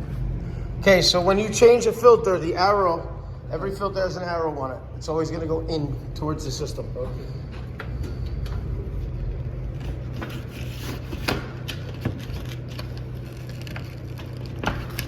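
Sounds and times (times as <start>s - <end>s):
low hum of hvac unit: 0.0s - 15.0s.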